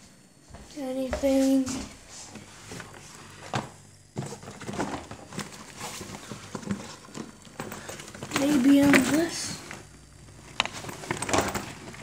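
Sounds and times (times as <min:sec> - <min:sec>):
objects being handled: 0:01.4 - 0:12.0.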